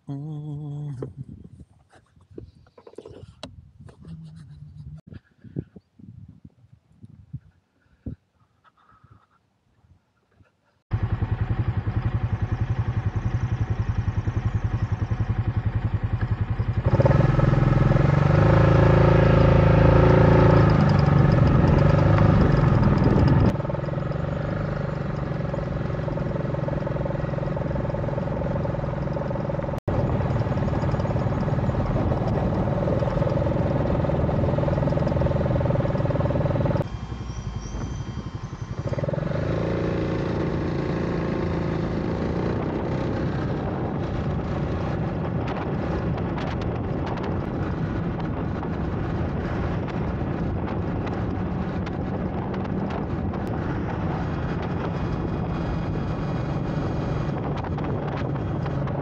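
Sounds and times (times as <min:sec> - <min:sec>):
motorcycle engine running: 0:10.9 - 0:59.0.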